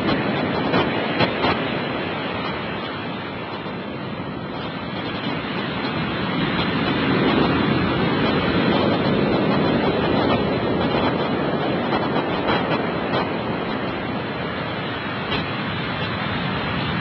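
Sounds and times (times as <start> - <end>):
surf breaking on shore: 0.0 - 17.0.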